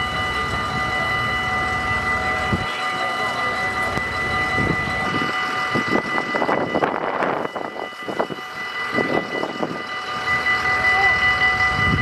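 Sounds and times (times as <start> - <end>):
people murmuring: 0.0 - 11.7
level-crossing warning bell: 0.0 - 12.0.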